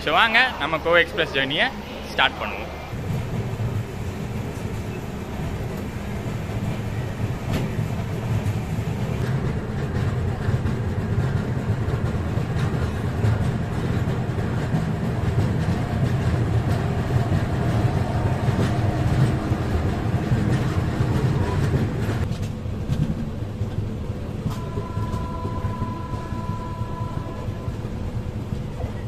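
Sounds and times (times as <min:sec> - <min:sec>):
train wheels rumbling on rails: 0:02.9 - 0:29.0.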